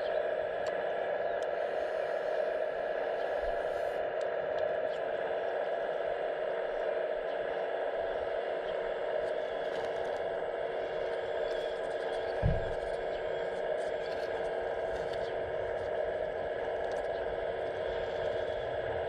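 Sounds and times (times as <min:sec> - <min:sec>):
electric hydraulic pump whine: 0:00.0 - 0:19.0.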